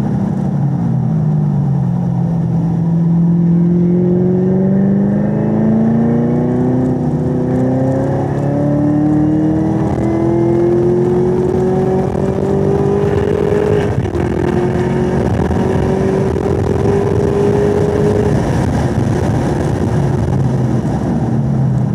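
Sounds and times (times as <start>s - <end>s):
wind and road noise: 0.0s - 21.9s
car engine accelerating hard: 2.0s - 21.9s.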